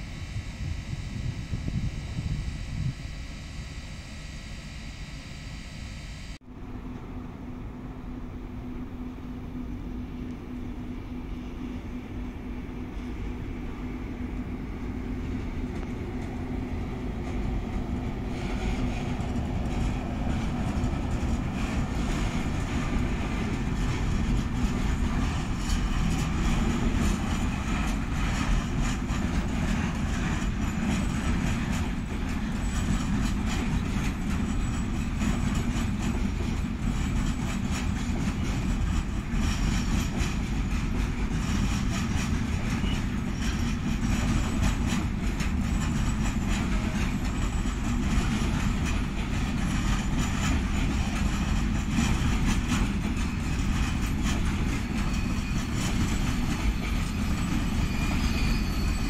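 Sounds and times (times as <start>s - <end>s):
freight train rumbling past: 6.5s - 59.0s.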